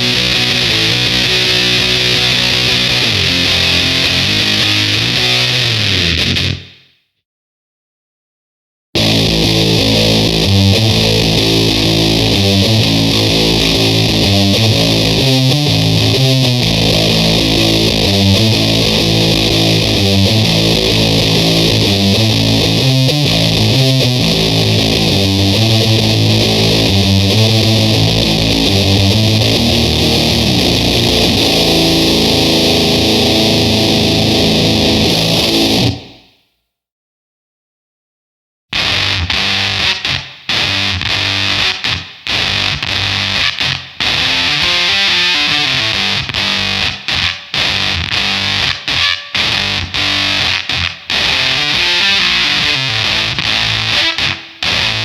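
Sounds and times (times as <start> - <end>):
fuzzed electric guitar riff: 0.0 - 6.9, 9.0 - 36.4, 38.7 - 55.0.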